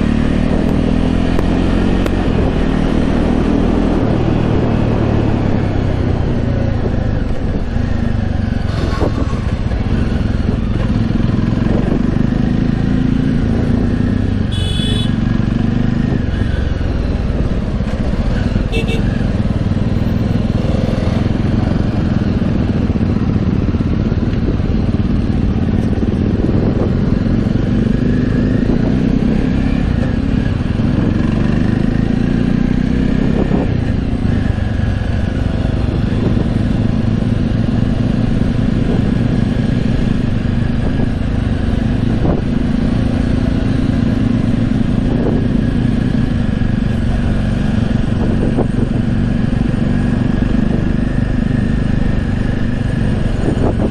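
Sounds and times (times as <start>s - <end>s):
motorcycle engine running: 0.0s - 53.9s
road and wind noise: 0.0s - 53.9s.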